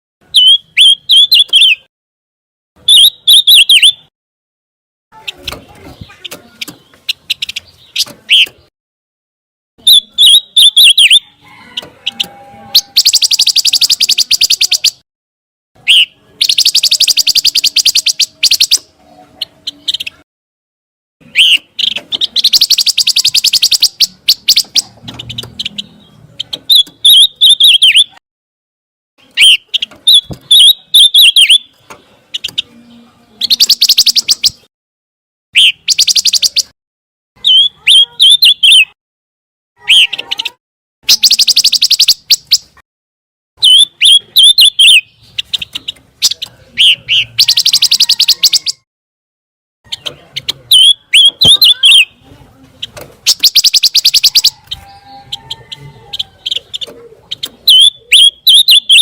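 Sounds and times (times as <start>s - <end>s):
songbird chirping and trilling: 0.2s - 1.9s, 2.8s - 4.1s, 5.1s - 8.7s, 9.8s - 15.0s, 15.8s - 20.3s, 21.2s - 28.2s, 29.2s - 34.7s, 35.6s - 36.8s, 37.4s - 39.0s, 39.8s - 42.8s, 43.6s - 48.9s, 49.8s - 59.0s.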